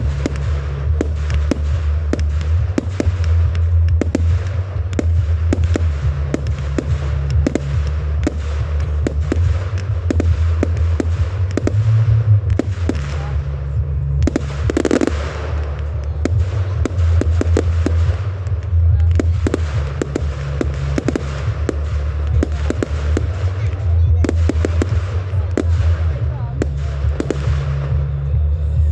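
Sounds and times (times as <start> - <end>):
fireworks bangs and crackles: 0.0 - 28.9
steady low rumble: 0.0 - 28.9.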